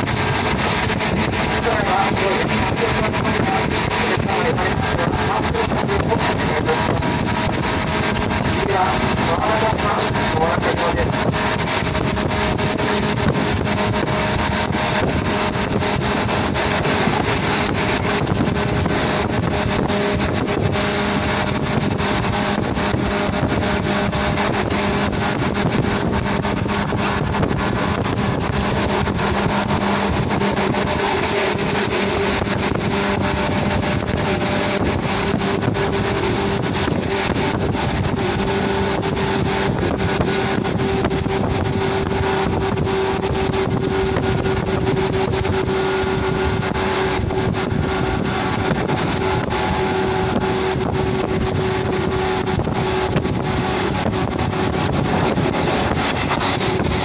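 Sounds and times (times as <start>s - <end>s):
traction motor whine: 0.0s - 57.0s
wheel-on-rail noise: 0.0s - 57.0s
wind buffeting through window: 0.0s - 57.0s.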